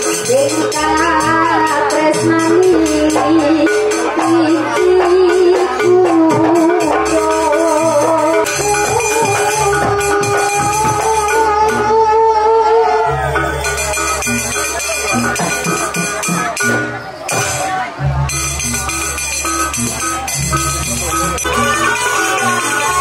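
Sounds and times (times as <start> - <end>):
rattling percussion: 0.0 - 12.5, 13.1 - 23.0
sustained wavering melody: 0.0 - 17.4, 18.2 - 23.0.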